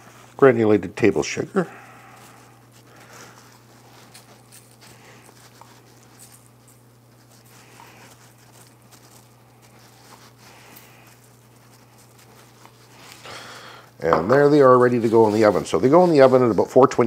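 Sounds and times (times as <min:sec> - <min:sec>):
steady low hum: 0:00.0 - 0:17.0
sugar sprinkling: 0:00.1 - 0:17.0.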